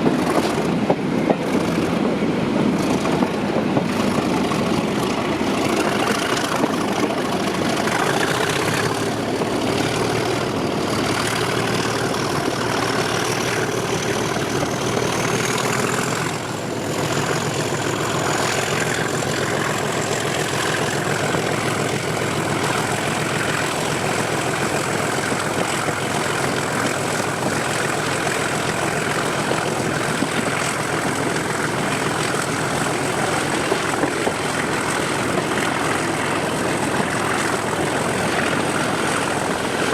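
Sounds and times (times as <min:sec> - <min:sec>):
diesel locomotive engine working: 0:00.0 - 0:39.9.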